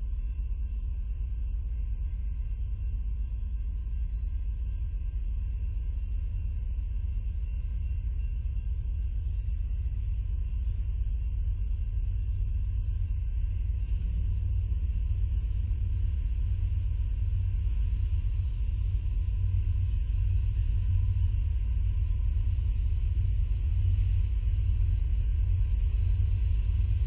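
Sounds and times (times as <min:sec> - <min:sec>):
faint steady hum tones: 0:00.0 - 0:27.0.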